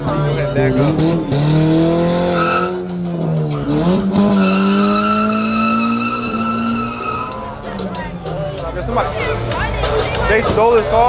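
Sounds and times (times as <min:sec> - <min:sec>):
car engine revving high: 0:00.0 - 0:11.0
tires squealing: 0:00.0 - 0:11.0.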